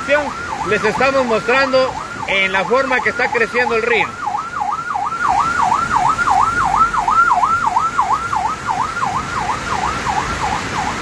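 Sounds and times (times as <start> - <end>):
river rushing: 0.0 - 11.0
siren yelping: 0.0 - 11.0.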